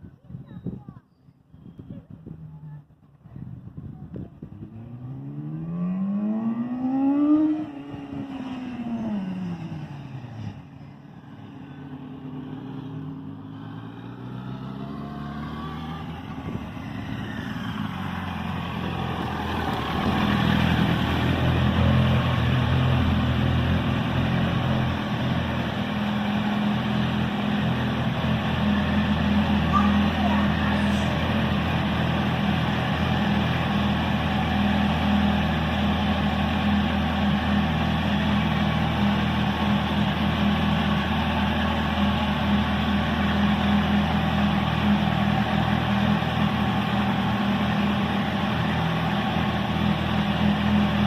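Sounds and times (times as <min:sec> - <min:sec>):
motorcycle engine revving: 0:04.3 - 0:51.0.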